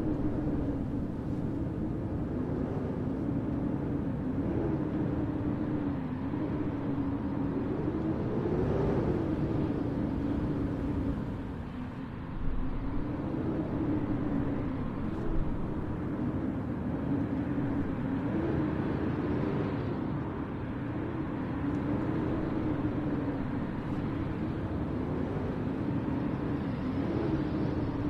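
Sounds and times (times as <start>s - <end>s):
blizzard wind howling: 0.0s - 28.0s.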